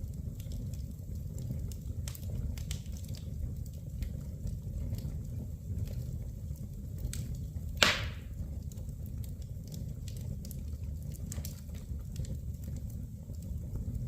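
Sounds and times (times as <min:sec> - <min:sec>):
fire snapping with hiss: 0:00.0 - 0:14.0
wood fire crackling: 0:00.0 - 0:14.0.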